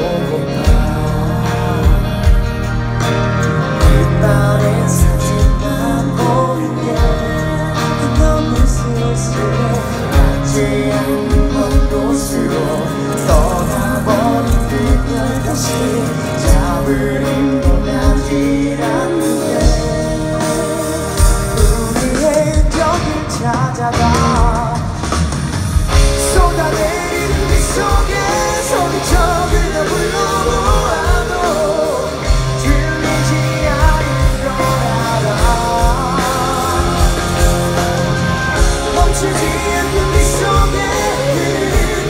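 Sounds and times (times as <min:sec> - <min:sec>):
person singing: 0:00.0 - 0:25.2, 0:25.9 - 0:42.0
bass and electric guitar: 0:00.0 - 0:42.0
drums: 0:00.0 - 0:42.0.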